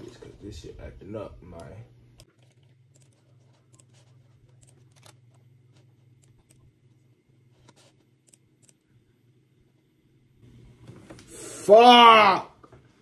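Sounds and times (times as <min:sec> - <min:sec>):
low steady hum: 0:00.0 - 0:11.5.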